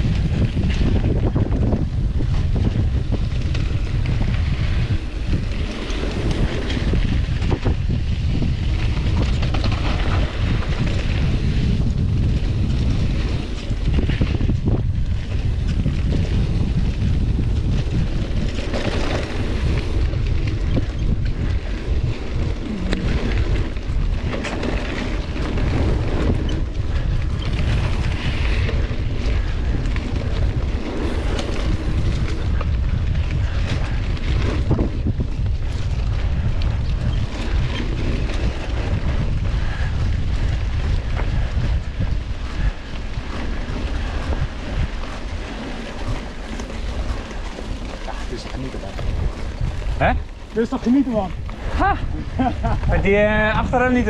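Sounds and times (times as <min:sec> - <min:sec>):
bike knocks and rattles: 0:00.0 - 0:52.6
wind buffeting microphone: 0:00.0 - 0:54.0.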